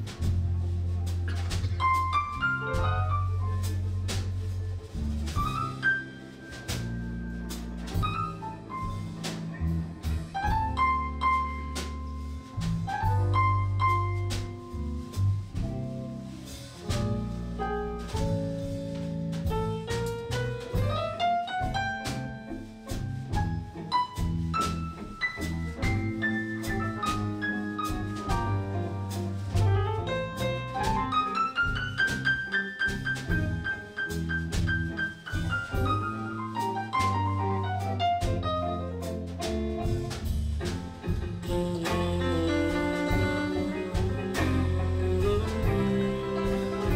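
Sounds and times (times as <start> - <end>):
bass line: 0.0 - 46.9
blues band playing: 0.0 - 46.9
drums steady beat: 0.0 - 46.9.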